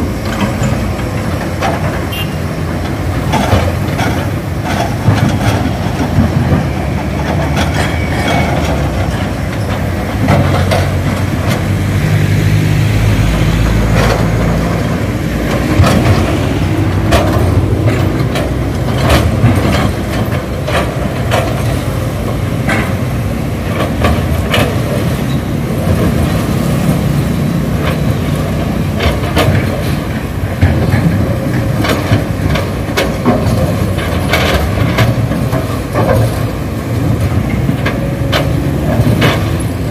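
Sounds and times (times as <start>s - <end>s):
diesel excavator engines: 0.0s - 39.9s
rocks and steel bucket clanking: 0.2s - 39.9s.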